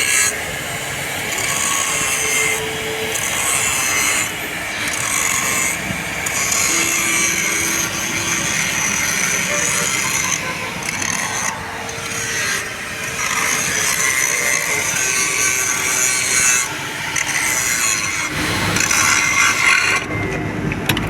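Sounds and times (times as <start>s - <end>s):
harsh rasping hiss of metalwork: 0.0s - 20.1s.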